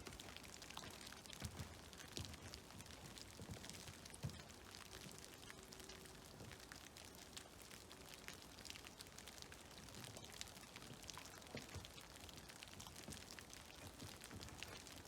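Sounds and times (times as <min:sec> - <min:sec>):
water dripping into creek: 0:00.0 - 0:15.0.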